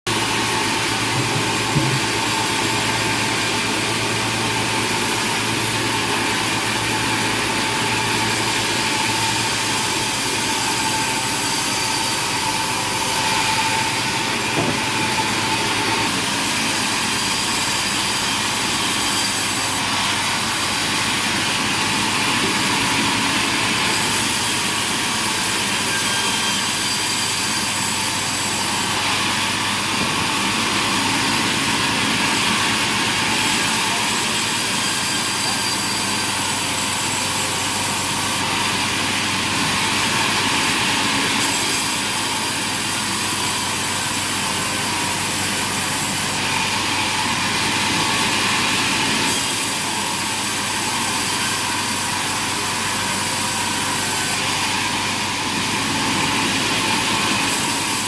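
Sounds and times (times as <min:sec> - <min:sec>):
sawmill machinery running: 0:00.1 - 0:58.0.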